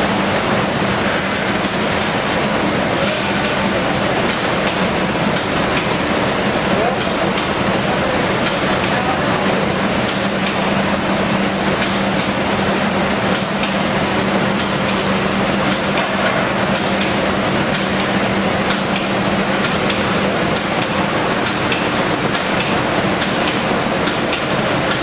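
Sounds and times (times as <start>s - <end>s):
machinery noise: 0.0s - 25.0s
steady hum: 0.0s - 25.0s.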